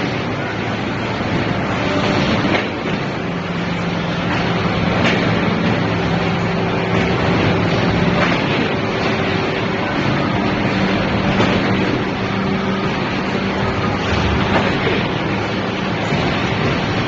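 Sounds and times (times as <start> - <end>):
industrial press machinery running: 0.0 - 17.0.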